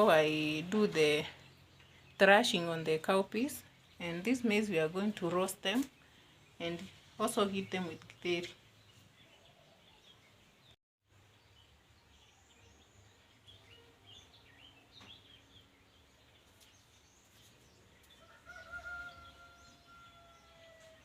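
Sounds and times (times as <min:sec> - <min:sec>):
faint rural ambience: 0:00.0 - 0:21.0.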